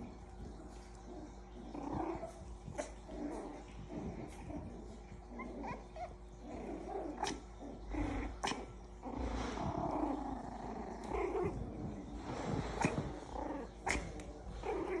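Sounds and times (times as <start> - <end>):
puppies growling: 0.0 - 15.0.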